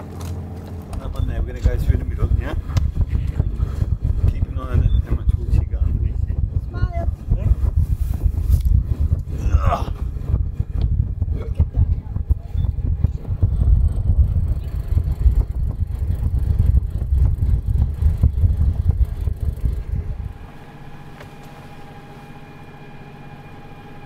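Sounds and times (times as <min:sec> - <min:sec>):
boat engine droning: 0:00.0 - 0:24.0
wind buffeting microphone: 0:01.0 - 0:21.1.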